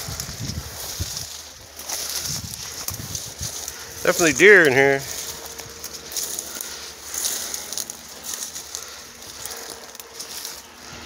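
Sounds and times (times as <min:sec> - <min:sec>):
footsteps through rustling dry grass: 0:00.0 - 0:11.0.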